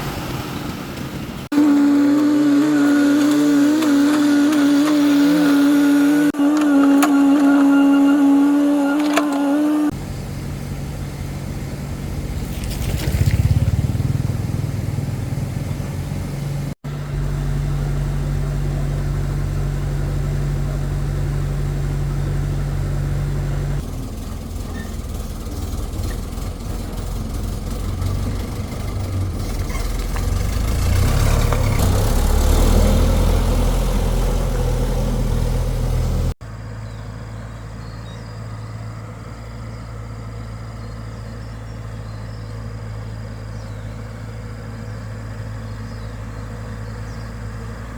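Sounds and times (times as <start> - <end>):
excavator diesel engine running: 9.0 - 47.9.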